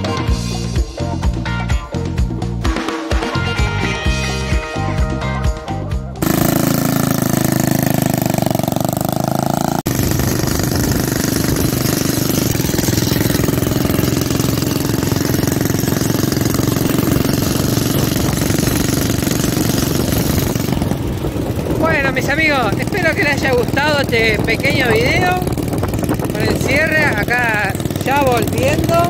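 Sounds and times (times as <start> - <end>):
motorcycle engine running: 3.4 - 29.0.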